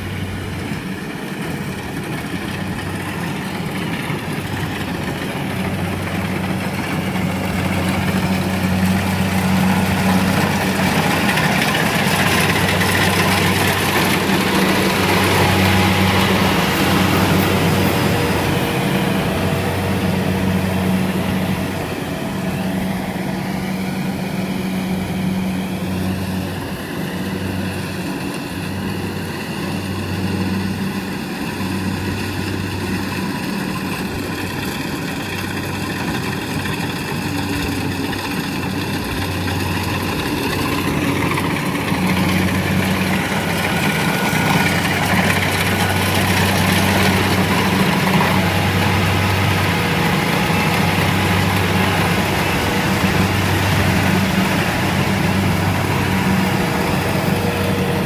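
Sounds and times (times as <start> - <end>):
combine harvester engine hum: 0.0 - 58.0
harvester rushing noise: 0.0 - 58.0.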